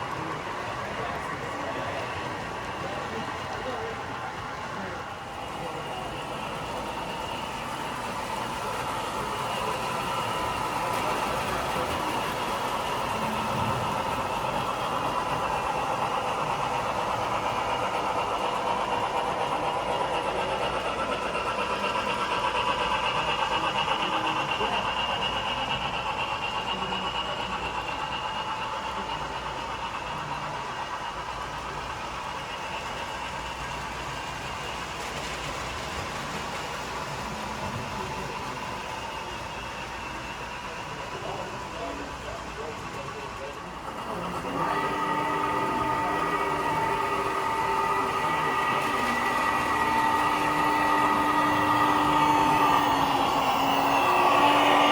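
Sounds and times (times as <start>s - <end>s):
model train motor whine: 0.0s - 54.9s.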